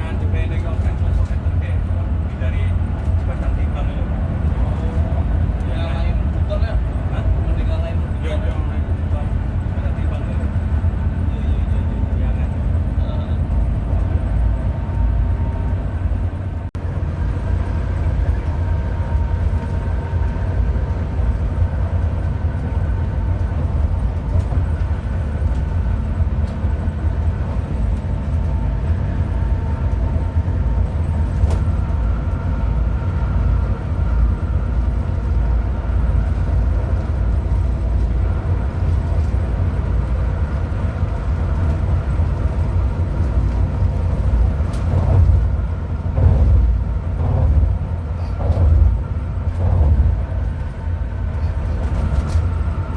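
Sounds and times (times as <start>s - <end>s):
bus diesel engine rumble: 0.0s - 52.9s.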